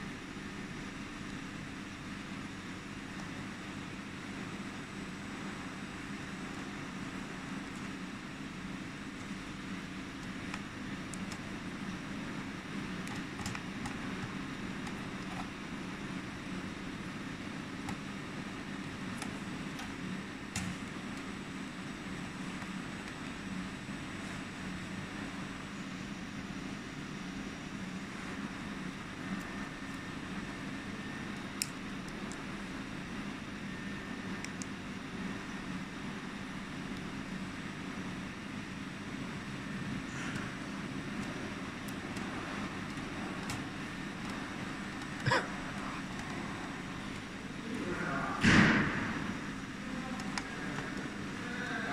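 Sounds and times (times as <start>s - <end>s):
low machinery hum: 0.0s - 51.9s.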